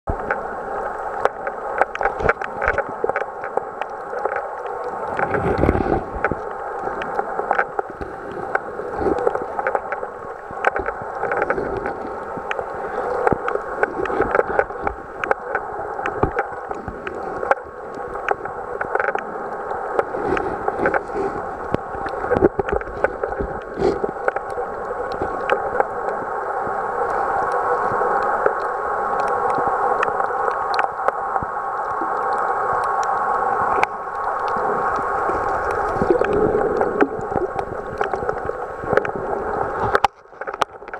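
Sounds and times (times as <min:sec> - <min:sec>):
muffled underwater water rush: 0:00.1 - 0:40.9
underwater clicks and crackles: 0:00.1 - 0:40.9.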